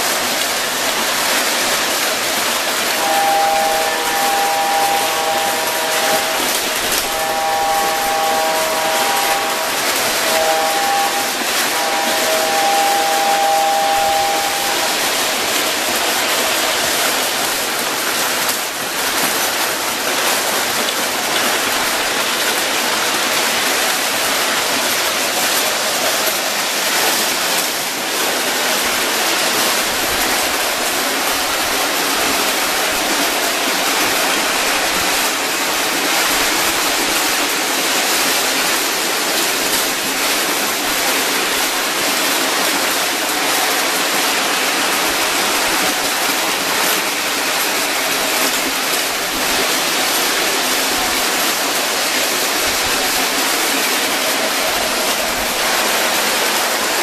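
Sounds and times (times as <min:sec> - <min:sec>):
toy trains running on metal track: 0:00.0 - 0:57.0.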